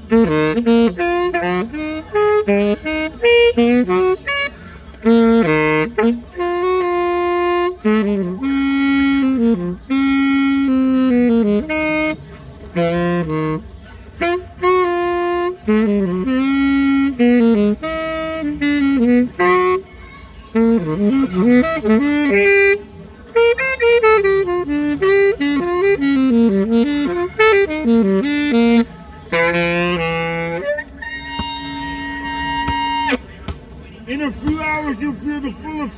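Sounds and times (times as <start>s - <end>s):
solo saxophone melody: 0.0s - 33.3s.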